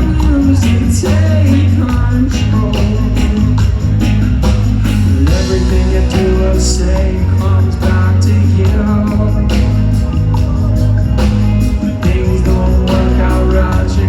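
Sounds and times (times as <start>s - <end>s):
person singing: 0.0s - 4.0s, 5.2s - 14.0s
live reggae band: 0.0s - 14.0s.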